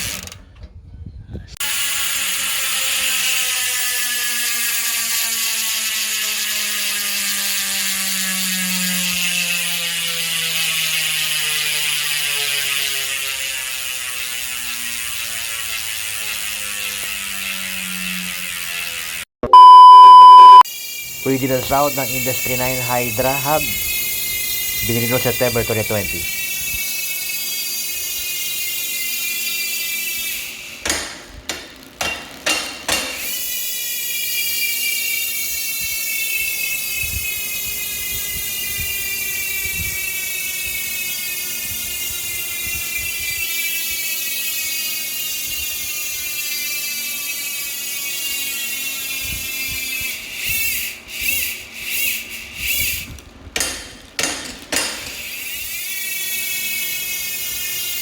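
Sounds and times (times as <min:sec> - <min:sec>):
bicycle hub freewheel buzz: 0:00.0 - 0:00.4, 0:01.6 - 0:19.3, 0:20.7 - 0:58.0.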